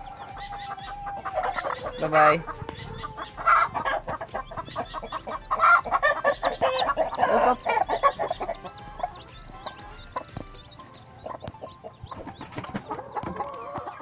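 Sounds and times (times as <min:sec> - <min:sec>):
chicks peeping: 0:00.0 - 0:14.0
hen clucking: 0:00.0 - 0:14.0.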